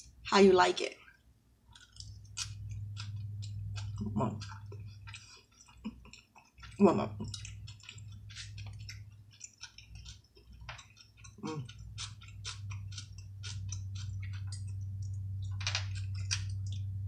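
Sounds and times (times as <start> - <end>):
person chewing with wet clicks: 1.1 - 17.0
low hum: 2.0 - 5.4, 6.6 - 17.0.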